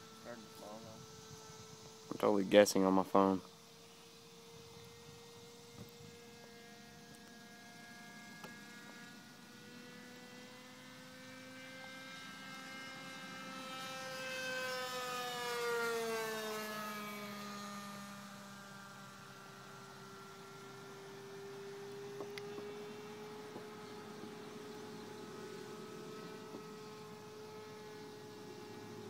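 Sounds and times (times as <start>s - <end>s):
model airplane engine droning: 0.0s - 29.0s.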